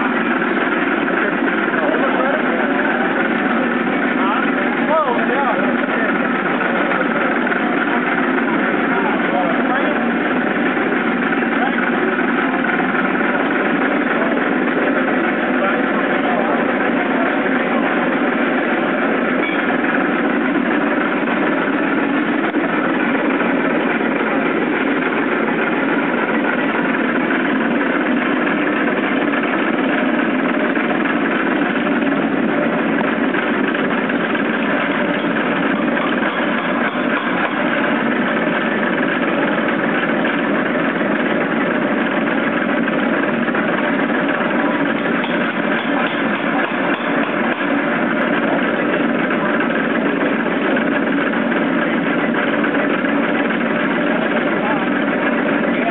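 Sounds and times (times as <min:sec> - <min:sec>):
air power hammer running: 0:00.0 - 0:55.9.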